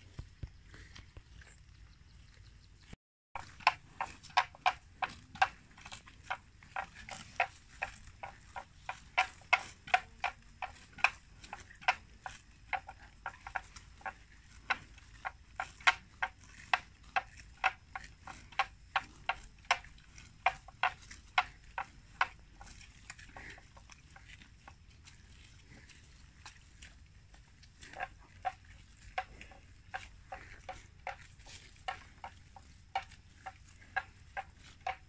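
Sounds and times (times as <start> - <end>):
water buffalo tearing grass: 3.4 - 35.0.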